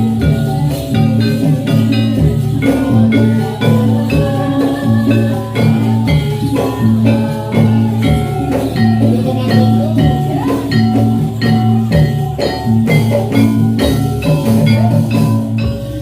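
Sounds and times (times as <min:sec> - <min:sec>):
gamelan music: 0:00.0 - 0:16.0
metallophones struck in steady beat: 0:00.0 - 0:16.0.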